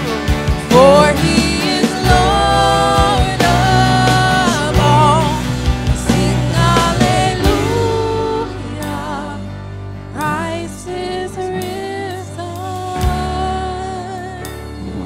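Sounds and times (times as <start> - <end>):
worship band playing slow song: 0.0 - 15.0
singers holding long notes: 0.4 - 15.0.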